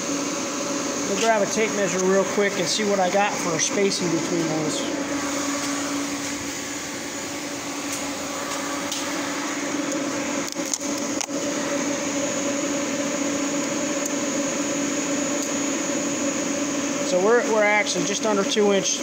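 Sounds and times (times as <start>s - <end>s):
water cooler hum with high whine: 0.0s - 19.0s.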